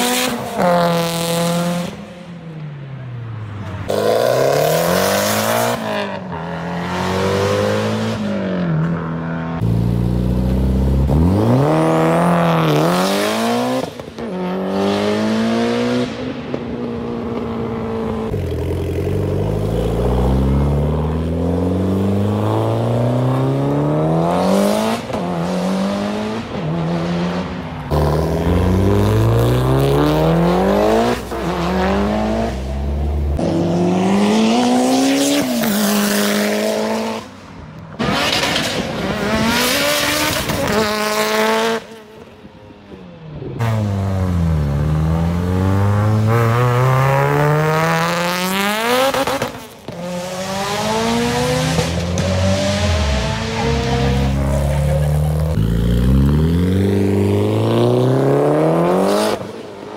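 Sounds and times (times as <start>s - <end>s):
sports car engines accelerating: 0.0s - 59.9s.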